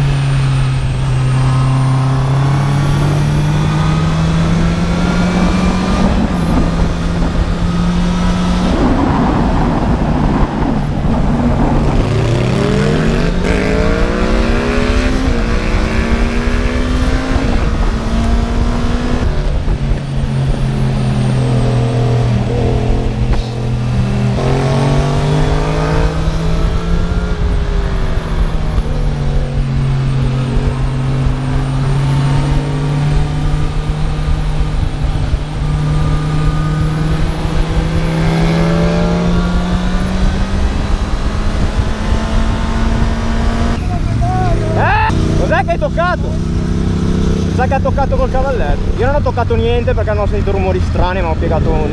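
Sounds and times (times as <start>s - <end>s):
motorcycle engine accelerating: 0.0s - 51.9s
wind rushing: 0.0s - 51.9s.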